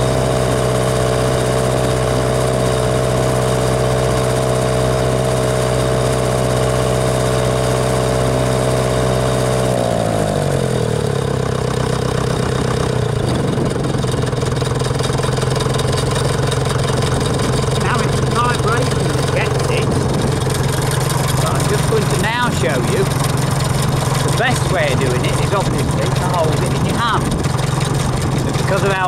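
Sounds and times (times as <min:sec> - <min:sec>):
diesel tractor engine running: 0:00.0 - 0:29.0.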